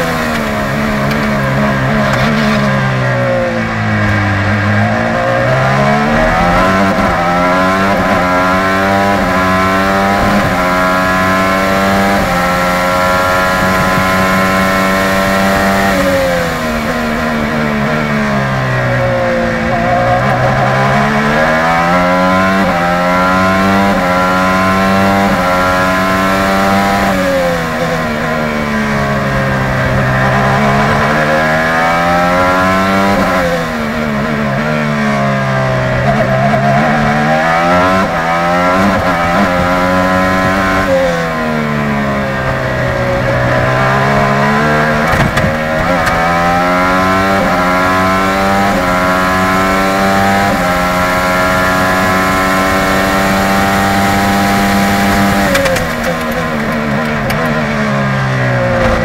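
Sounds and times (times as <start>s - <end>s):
race car engine downshifting: 0.0s - 59.0s.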